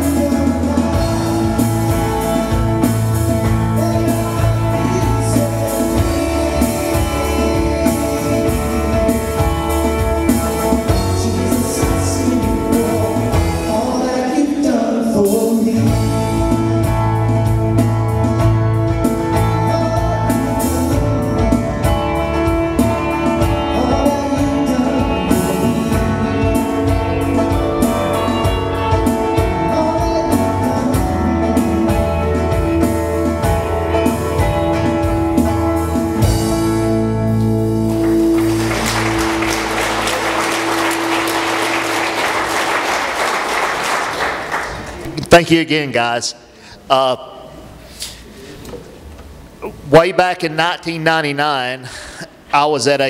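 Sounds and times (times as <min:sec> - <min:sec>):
drum kit: 0:00.0 - 0:45.2
electric guitar: 0:00.0 - 0:45.3
bass guitar: 0:00.0 - 0:45.4
acoustic guitars: 0:00.0 - 0:45.8.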